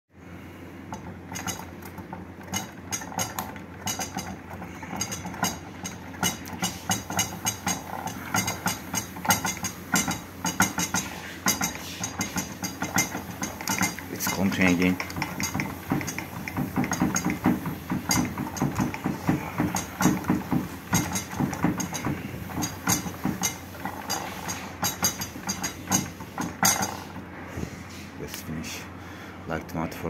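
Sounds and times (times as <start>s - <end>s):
objects rattling and clinking: 0.9s - 27.3s.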